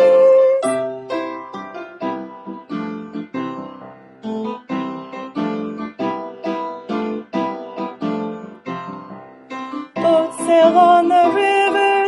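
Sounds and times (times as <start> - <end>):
piano playing: 0.0 - 12.0.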